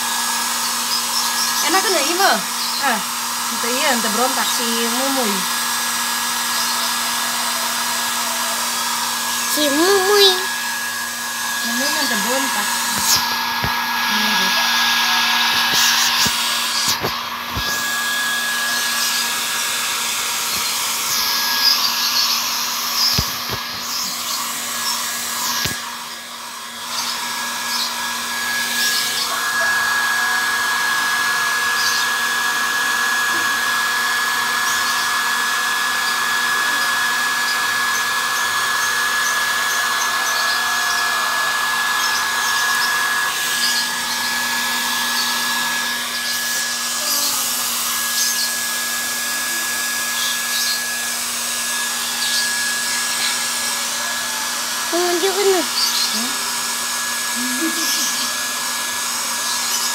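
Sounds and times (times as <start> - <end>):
hair dryer blowing with whine: 0.0 - 59.9.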